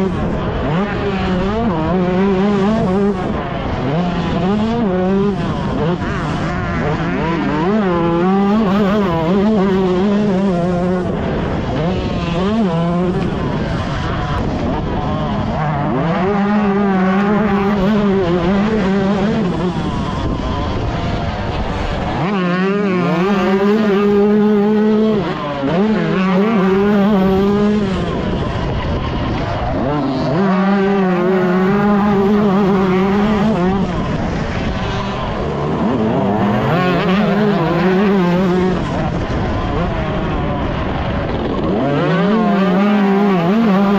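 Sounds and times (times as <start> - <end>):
motocross engine revving hard: 0.0 - 43.9.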